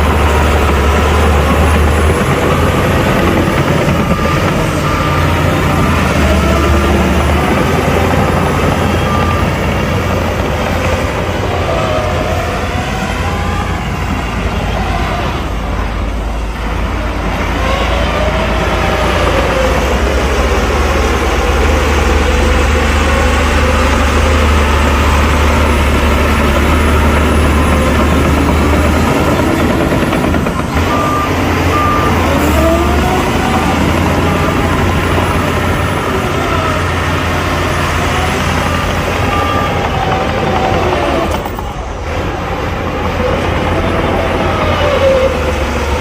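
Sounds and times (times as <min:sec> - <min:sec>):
diesel machinery rumbling: 0:00.0 - 0:46.0.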